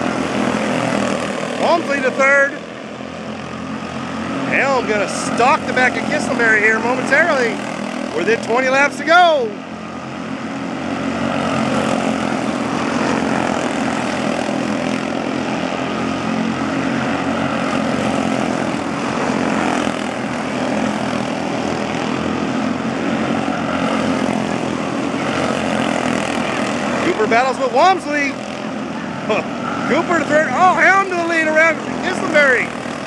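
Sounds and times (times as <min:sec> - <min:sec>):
race car engines buzzing: 0:00.0 - 0:33.0.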